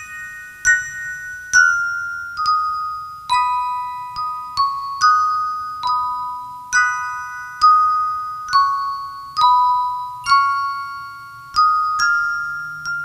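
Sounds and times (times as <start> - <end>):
bell-like mallet melody: 0.0 - 13.0.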